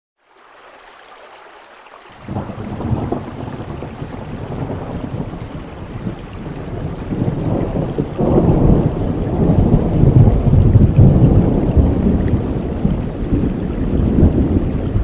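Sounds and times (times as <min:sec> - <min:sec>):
steady rain: 0:00.2 - 0:15.0
rolling thunder: 0:02.2 - 0:15.0.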